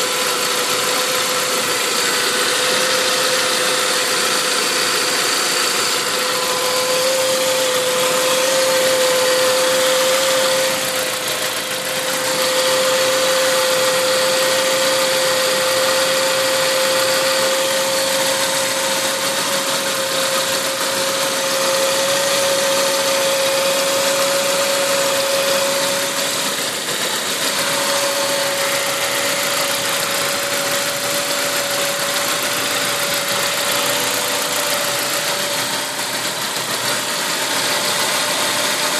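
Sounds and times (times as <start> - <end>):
car engine idling with whine: 0.0 - 38.9.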